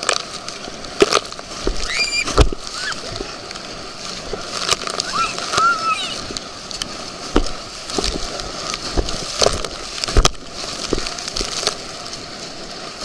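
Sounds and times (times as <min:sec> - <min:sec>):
inflatable tube thudding on waves: 0:00.0 - 0:13.0
rushing water: 0:00.0 - 0:13.0.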